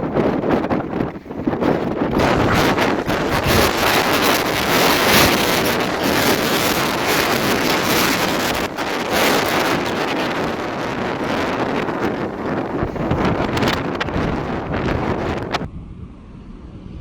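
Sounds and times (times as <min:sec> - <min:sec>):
jet blast wind noise: 0:00.0 - 0:17.0.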